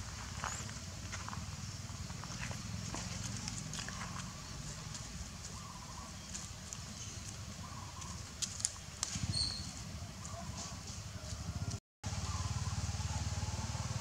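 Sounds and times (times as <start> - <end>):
footsteps on dry leaves: 0.0 - 11.7.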